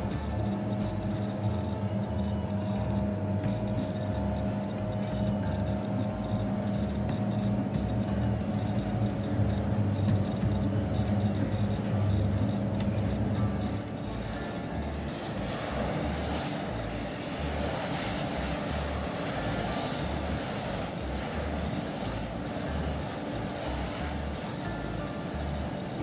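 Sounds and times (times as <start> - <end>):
wind turbine humming: 0.0 - 26.0.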